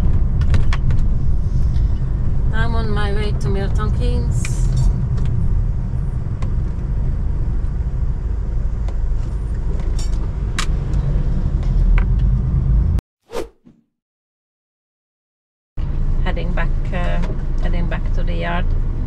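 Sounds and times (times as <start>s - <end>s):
engine and road rumble in cab: 0.0s - 13.0s, 15.8s - 19.0s.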